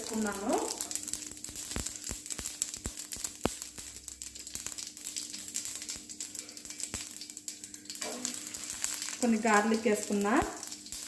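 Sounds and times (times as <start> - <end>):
oil sizzling: 0.0 - 11.0
seeds popping in hot oil: 0.0 - 11.0.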